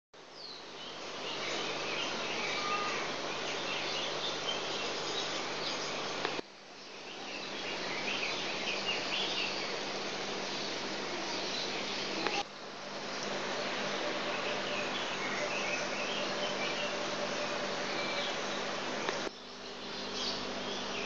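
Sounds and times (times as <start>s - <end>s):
small birds chirping: 0.2s - 21.0s
steady hiss: 0.2s - 21.0s.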